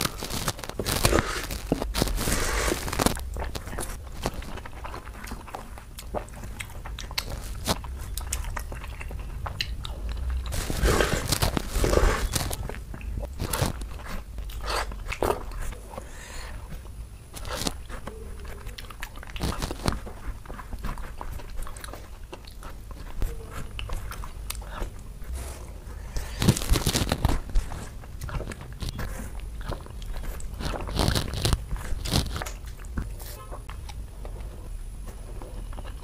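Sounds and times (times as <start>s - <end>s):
wet fingers squishing food: 0.0s - 34.5s
chewing with mouth smacks: 0.0s - 36.0s.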